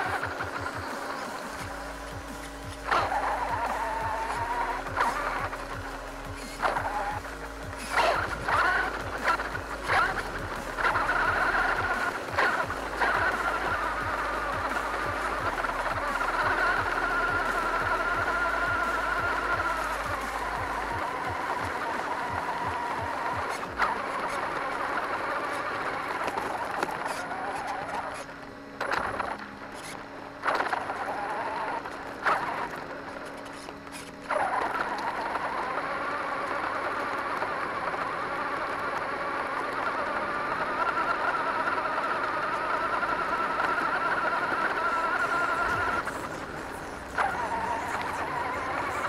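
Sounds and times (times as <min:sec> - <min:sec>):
toy truck motor whine: 0:00.0 - 0:49.0.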